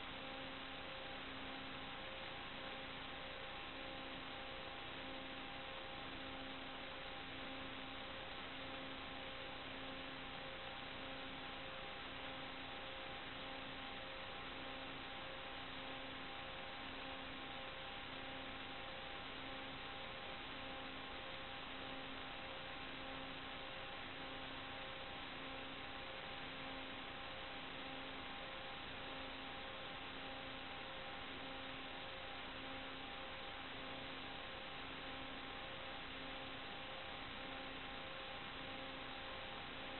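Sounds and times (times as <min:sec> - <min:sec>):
faint pulsing hum tones: 0:00.0 - 0:39.9.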